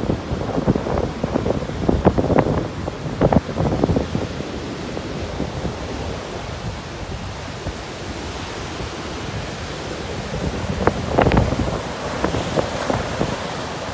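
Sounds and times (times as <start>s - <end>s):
ocean surf breaking on beach: 0.0s - 13.9s
wind buffeting microphone: 0.0s - 13.9s.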